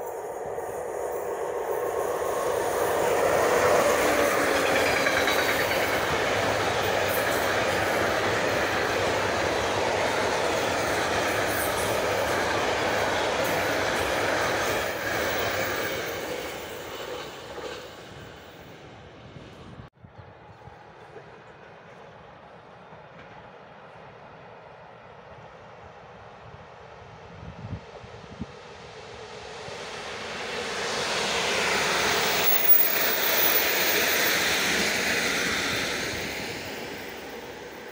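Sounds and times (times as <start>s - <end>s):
freight train passing: 0.0s - 37.9s.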